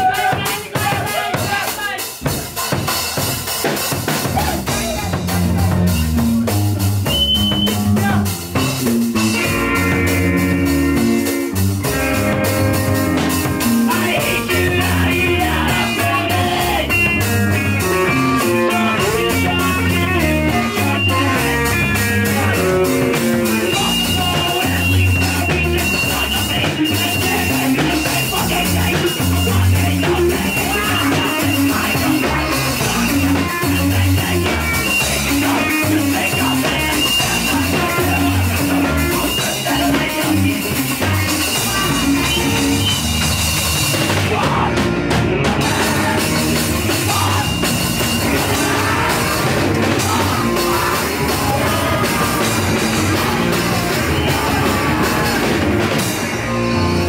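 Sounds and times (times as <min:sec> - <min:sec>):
drum kit: 0:00.0 - 0:57.0
hardcore punk band playing live: 0:00.0 - 0:57.0
electric guitar: 0:02.3 - 0:57.0.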